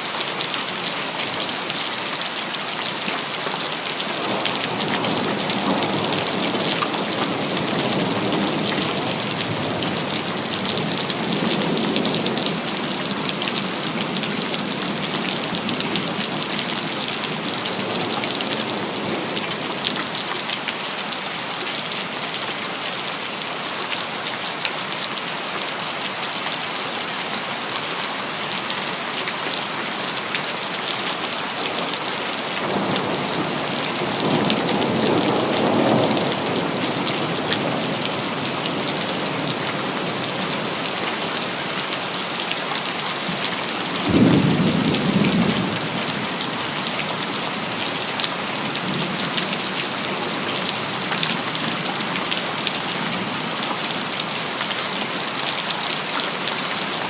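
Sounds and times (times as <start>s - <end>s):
rain on hard surfaces: 0.0s - 57.0s.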